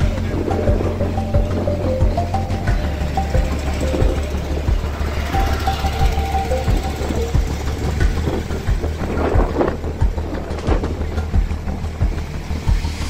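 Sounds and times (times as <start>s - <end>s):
music with deep beat: 0.0s - 13.0s
rough rushing noise: 0.0s - 13.0s.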